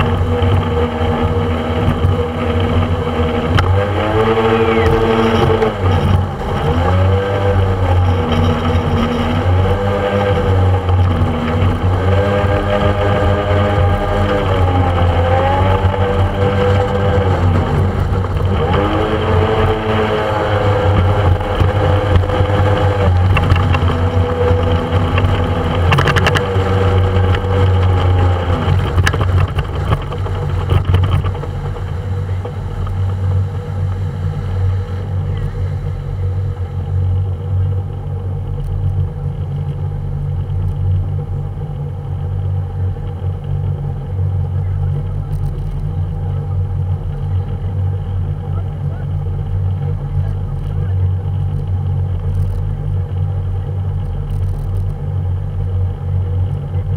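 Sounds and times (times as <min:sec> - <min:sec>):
motorboat engine running: 0:00.0 - 0:56.9.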